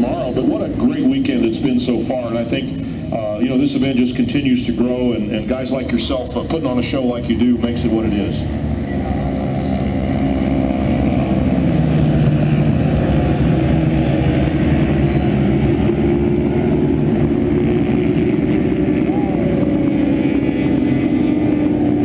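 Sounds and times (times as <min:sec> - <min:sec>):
racing motorcycle engines passing: 0:00.0 - 0:22.0.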